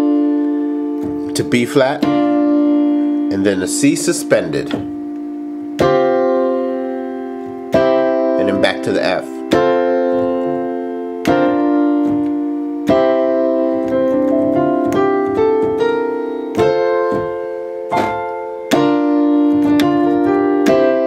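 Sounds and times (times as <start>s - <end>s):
piano chords on keyboard: 0.0s - 21.0s.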